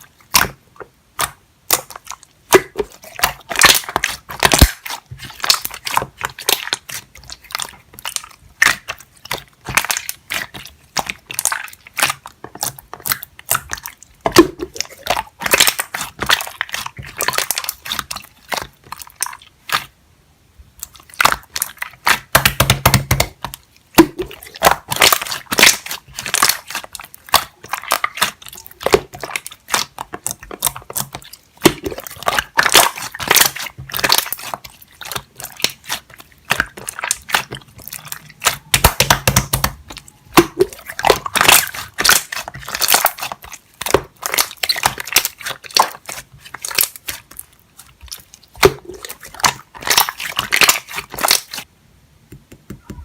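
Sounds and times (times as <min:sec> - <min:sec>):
slime squelches: 0:00.0 - 0:51.7
slime clicking and popping: 0:00.3 - 0:19.9, 0:20.8 - 0:51.6.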